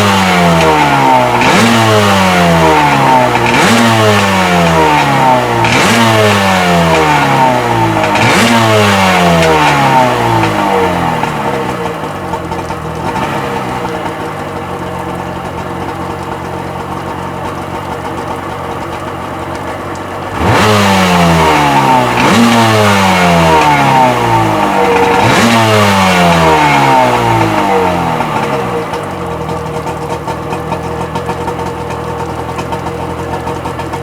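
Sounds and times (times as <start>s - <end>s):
two-stroke engine running and revving: 0.0s - 34.0s.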